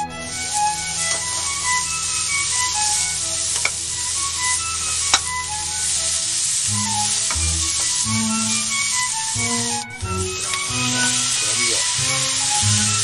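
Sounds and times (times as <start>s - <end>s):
background music: 0.0s - 13.0s
food sizzling in frying pan: 0.3s - 13.0s.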